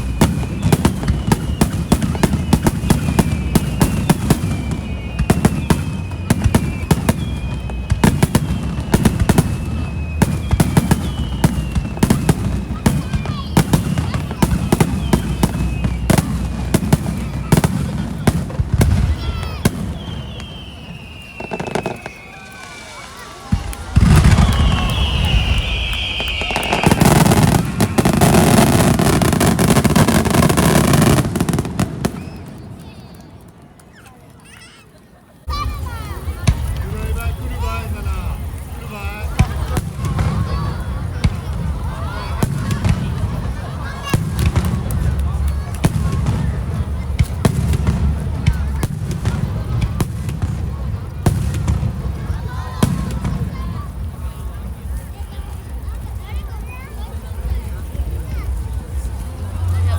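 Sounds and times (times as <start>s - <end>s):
fireworks bangs and crackles: 0.0s - 59.9s
high whistling fireworks: 0.0s - 59.9s.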